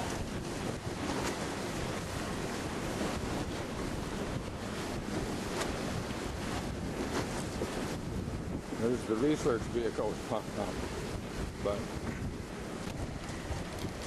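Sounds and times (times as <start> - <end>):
gusty wind on microphone: 0.0 - 14.0
waves washing against boat hull: 0.0 - 14.0.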